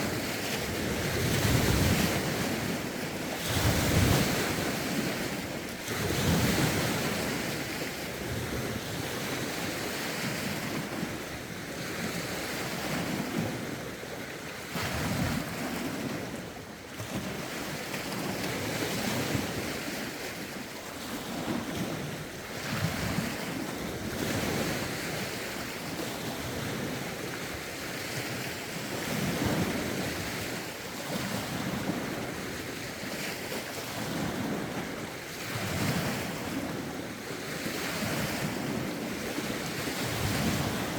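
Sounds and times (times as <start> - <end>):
wind buffeting microphone: 0.0 - 14.1, 14.7 - 40.9
lake waves lapping shore: 0.0 - 40.9.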